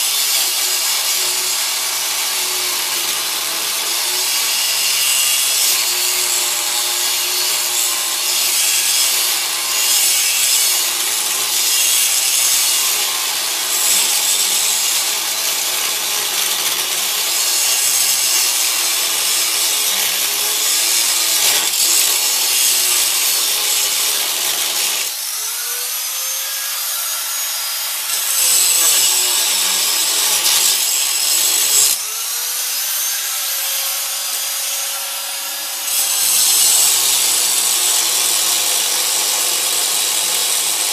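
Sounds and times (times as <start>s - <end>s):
angle grinder cutting metal: 0.0s - 40.9s.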